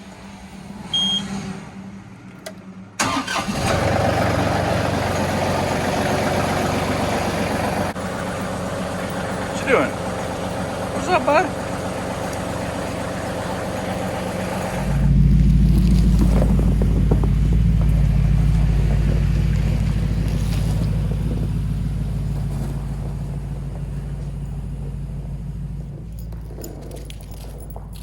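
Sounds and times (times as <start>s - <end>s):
engine idling: 2.3s - 28.0s.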